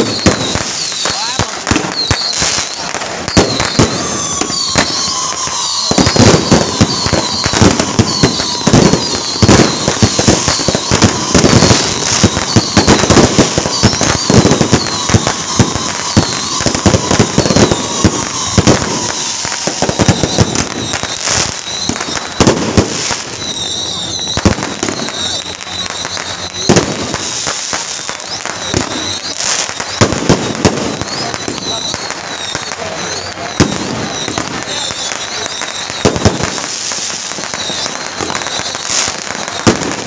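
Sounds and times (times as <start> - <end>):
firecrackers crackling: 0.0 - 40.0
loud firecracker bangs: 0.0 - 40.0.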